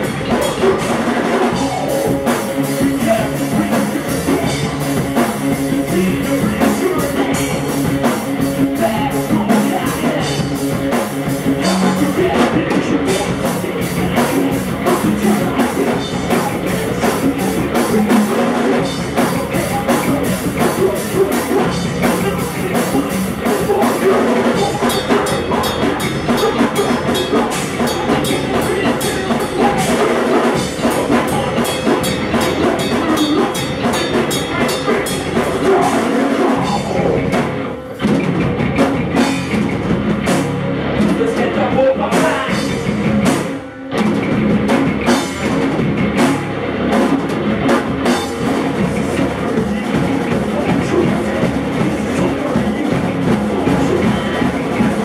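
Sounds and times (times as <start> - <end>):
person singing: 0.0 - 37.4, 41.0 - 42.9, 48.0 - 55.0
bass guitar: 0.0 - 55.0
drum kit: 0.0 - 55.0
electric guitar: 0.0 - 55.0.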